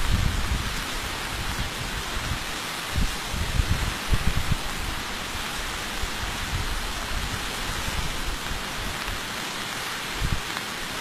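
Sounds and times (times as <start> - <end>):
floodwater rushing: 0.0 - 11.0
heavy rain falling: 0.0 - 11.0.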